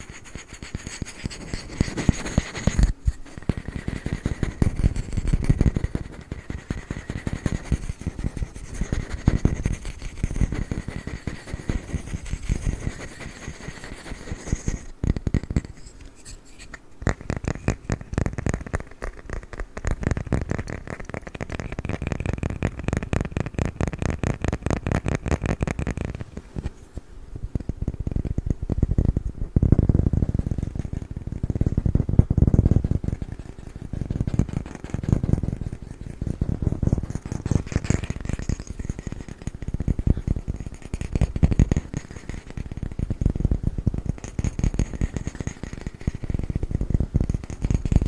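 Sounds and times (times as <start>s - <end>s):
tapping and scratching on wood: 0.0s - 48.0s.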